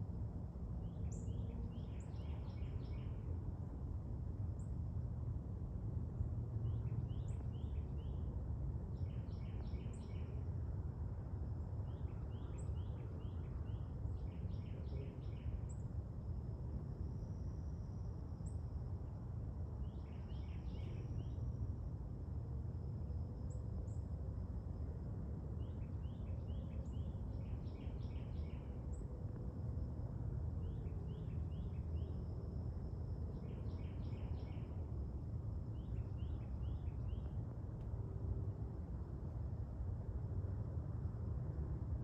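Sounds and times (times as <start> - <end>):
low background rumble: 0.0 - 42.0.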